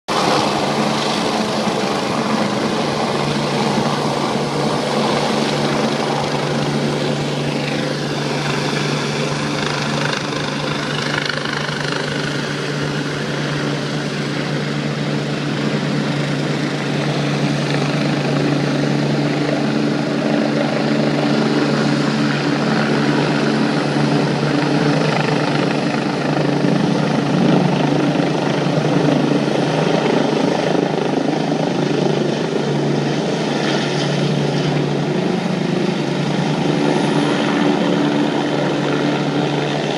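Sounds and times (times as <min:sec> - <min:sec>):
helicopter drone: 0:00.1 - 0:39.9.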